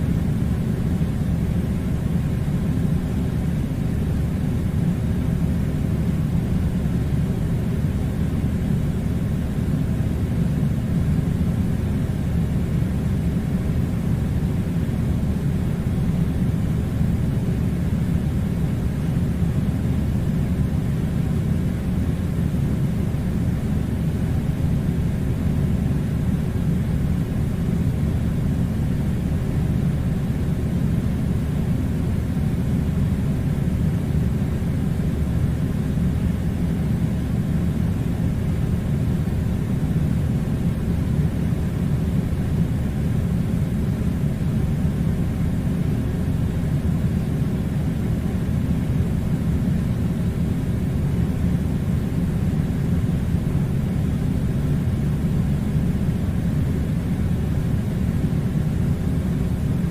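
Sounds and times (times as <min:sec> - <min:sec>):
low droning machine rumble: 0:00.0 - 0:59.9.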